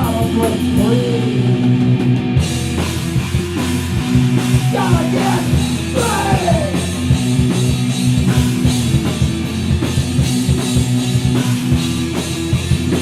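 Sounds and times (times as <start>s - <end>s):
bass notes: 0.0s - 13.0s
drum kit beating a rhythm: 0.0s - 13.0s.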